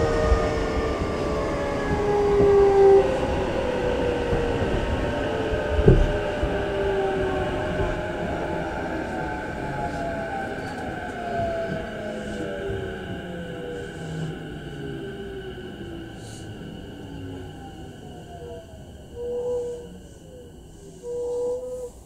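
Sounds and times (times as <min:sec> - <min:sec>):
train motor whine: 0:00.0 - 0:22.0
train running noise: 0:00.0 - 0:22.0.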